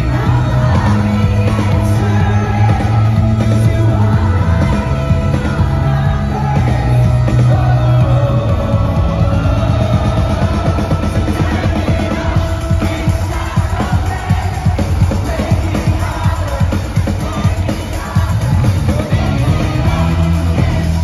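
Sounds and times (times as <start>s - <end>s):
crowd shouting: 0.0s - 21.0s
live rock band playing: 0.0s - 21.0s
person singing: 0.0s - 21.0s.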